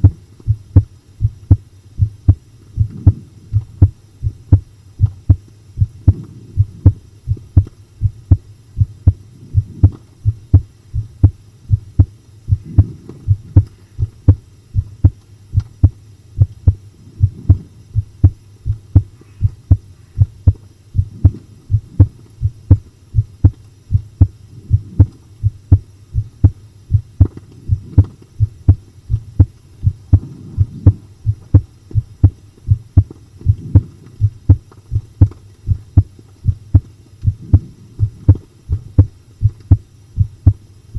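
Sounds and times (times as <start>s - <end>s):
heart beating: 0.0s - 40.6s.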